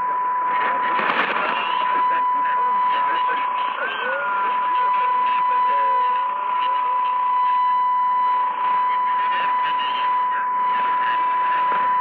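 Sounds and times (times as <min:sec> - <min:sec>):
radio static: 0:00.0 - 0:12.0
weak noisy radio programme: 0:00.0 - 0:12.0.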